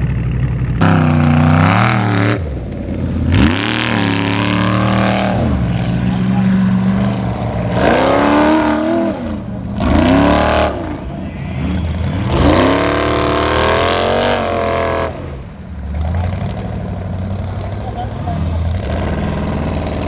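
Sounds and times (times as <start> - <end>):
buggy engine revving: 0.0 - 20.0.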